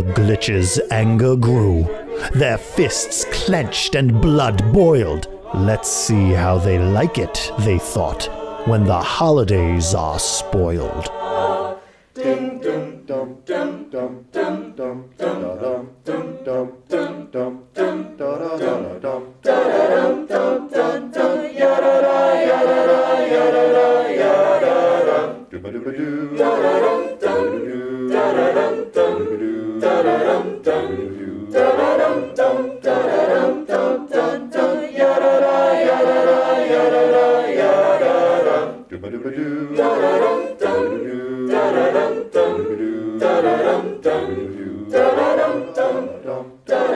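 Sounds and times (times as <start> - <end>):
group singing a cappella: 0.0 - 46.9.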